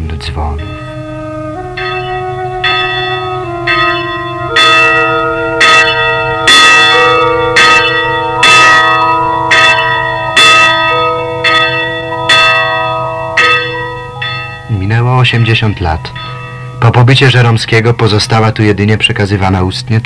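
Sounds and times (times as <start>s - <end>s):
church bells ringing: 0.0s - 19.2s.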